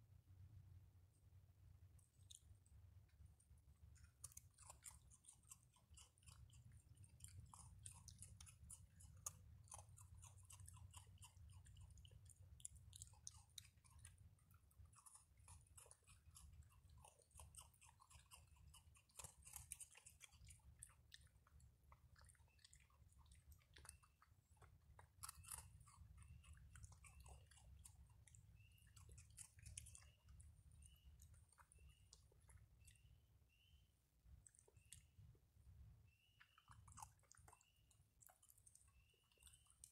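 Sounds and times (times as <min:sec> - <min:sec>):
raccoons crunching dry food: 0:02.1 - 0:33.6, 0:36.1 - 0:39.9.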